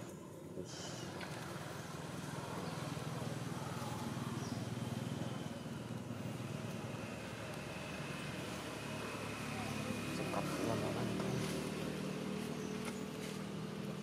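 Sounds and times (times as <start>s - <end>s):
vehicle engine drone: 0.0s - 14.0s.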